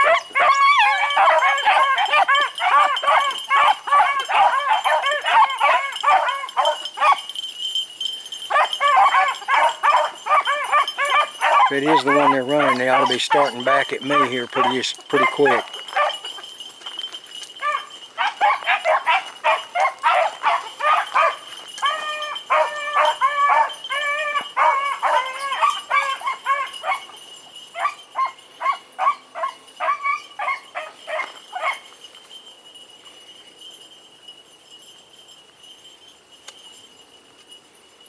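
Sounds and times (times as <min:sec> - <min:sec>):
dogs baying: 0:00.0 - 0:07.4, 0:08.0 - 0:31.9.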